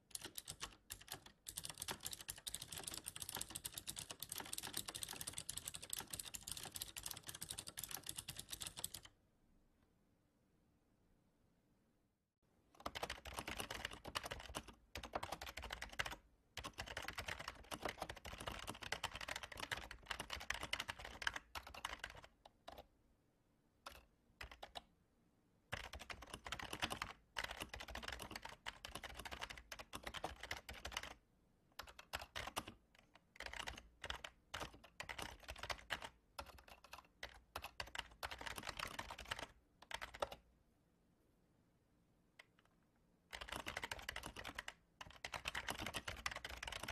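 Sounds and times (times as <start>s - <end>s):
fast typing on keyboard: 0.0s - 9.1s, 12.8s - 22.9s, 23.9s - 24.8s, 25.7s - 31.2s, 31.8s - 40.4s, 43.3s - 46.9s.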